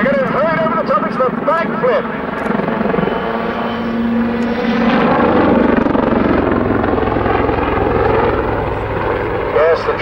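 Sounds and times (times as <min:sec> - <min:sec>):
helicopter engines rushing: 0:00.0 - 0:10.0
helicopter rotor beating: 0:00.0 - 0:10.0.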